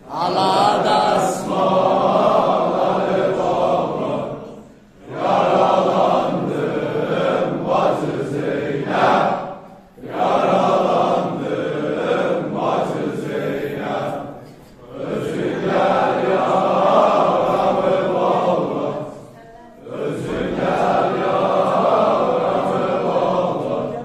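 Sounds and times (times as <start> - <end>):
men chanting in unison: 0.0 - 24.0.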